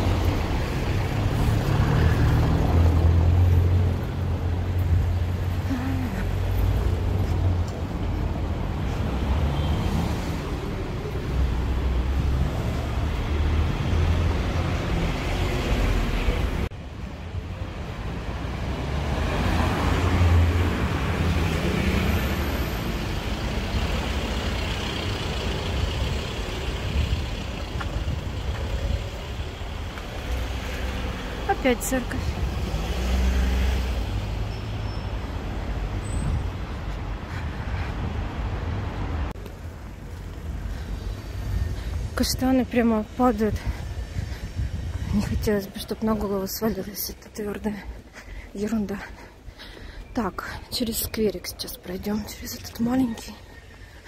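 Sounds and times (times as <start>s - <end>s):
cars passing: 0.0s - 54.0s
low traffic rumble: 0.0s - 54.0s.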